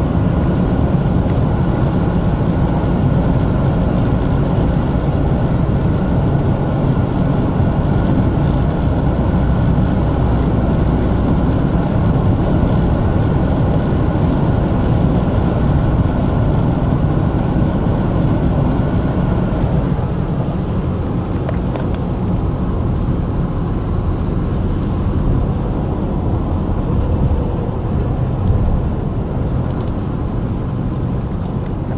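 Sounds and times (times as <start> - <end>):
car cabin road rumble: 0.0 - 31.9.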